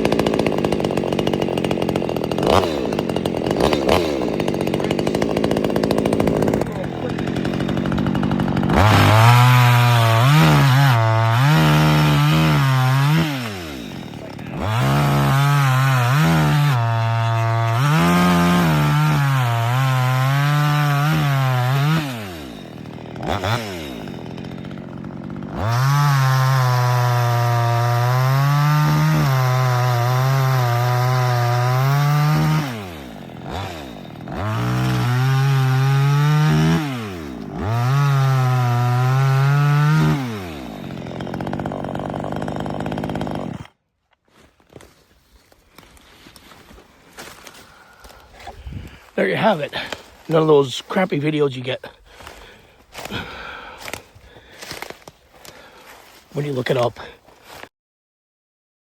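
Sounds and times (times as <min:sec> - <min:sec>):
chainsaw revving: 0:00.0 - 0:43.8, 0:46.5 - 0:57.6.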